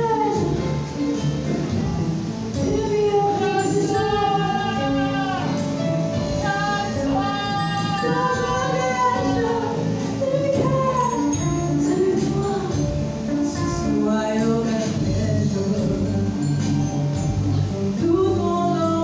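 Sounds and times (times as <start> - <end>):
woman singing with vibrato: 0.0 - 16.7, 18.0 - 19.0
band playing a song: 0.0 - 19.0.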